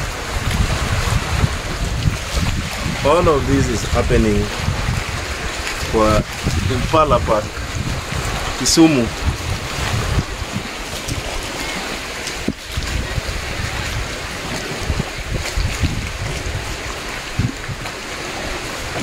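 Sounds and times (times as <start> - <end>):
lake water washing: 0.0 - 19.0
wind buffeting microphone: 0.0 - 19.0.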